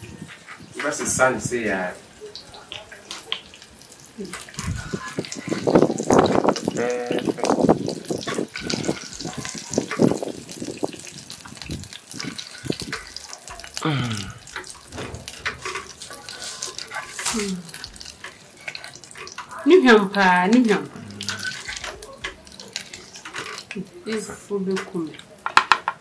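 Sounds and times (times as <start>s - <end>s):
water running and splashing: 0.0s - 26.0s.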